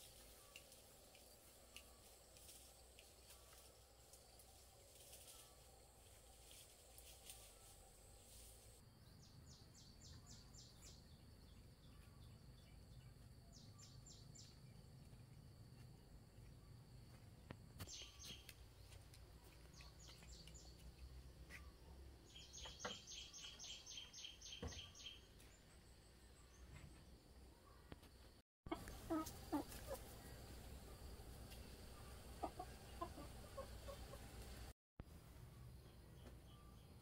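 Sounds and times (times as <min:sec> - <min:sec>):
small birds chirping: 0:00.0 - 0:15.8, 0:17.8 - 0:25.7, 0:28.7 - 0:34.7.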